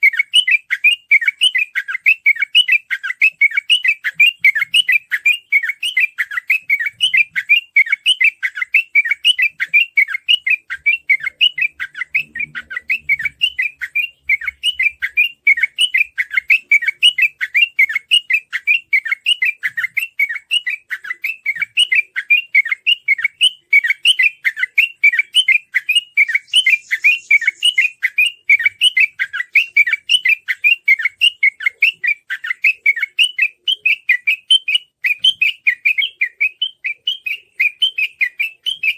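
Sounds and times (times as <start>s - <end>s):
bulbul singing fast whistled notes: 0.0s - 38.9s.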